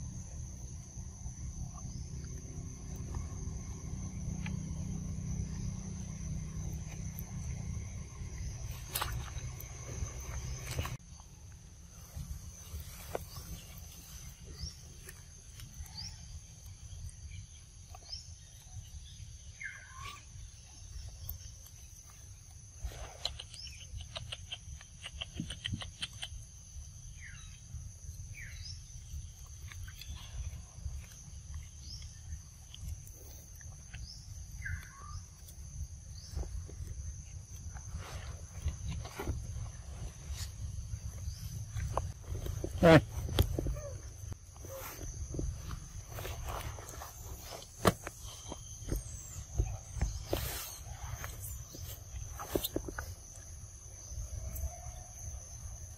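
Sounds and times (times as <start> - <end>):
insects buzzing: 0.0 - 55.9.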